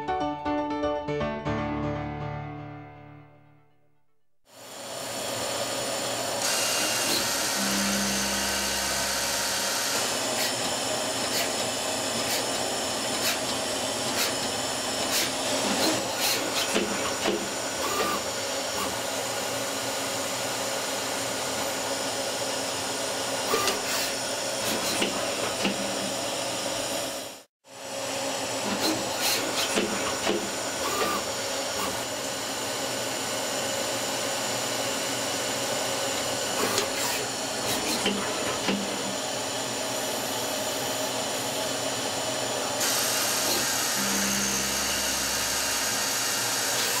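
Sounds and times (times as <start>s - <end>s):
lathe whirring hiss: 4.5s - 47.0s.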